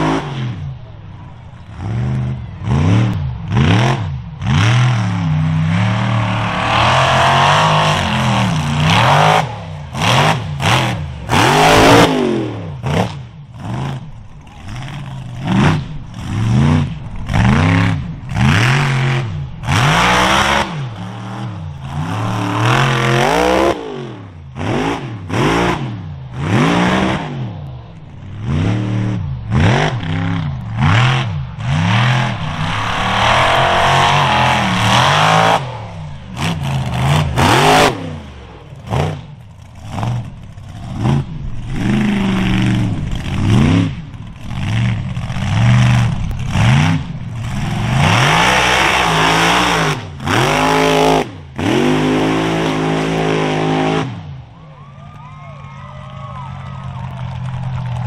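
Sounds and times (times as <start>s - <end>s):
truck engine revving hard: 0.0s - 0.8s, 1.6s - 54.5s.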